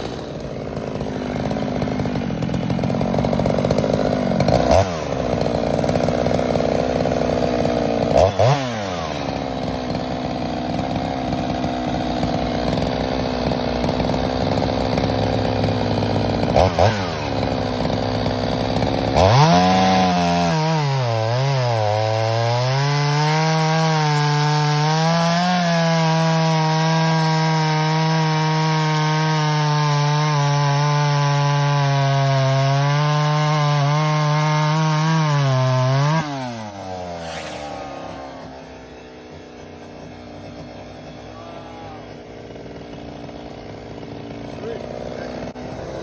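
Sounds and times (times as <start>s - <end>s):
chainsaw cutting a log: 0.0s - 46.0s.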